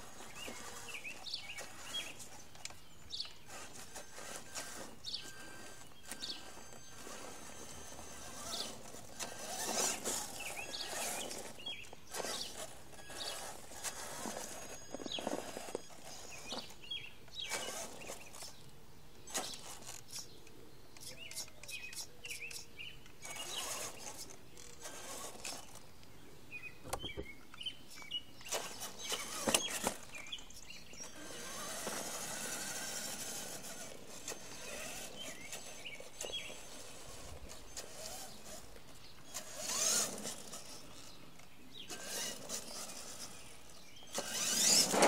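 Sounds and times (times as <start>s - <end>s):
rc truck driving on asphalt: 0.0s - 45.0s
small birds chirping: 0.0s - 45.0s.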